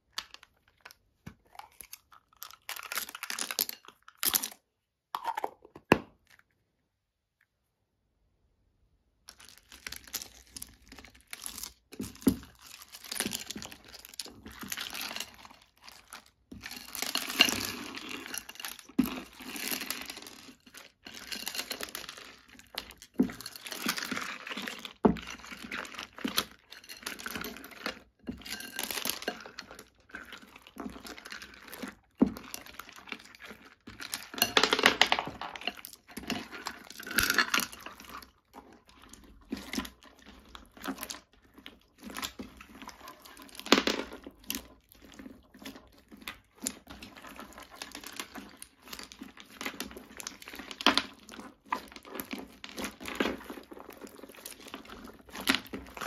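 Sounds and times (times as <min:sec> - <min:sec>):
slime squishing by hand: 0:09.3 - 0:56.0.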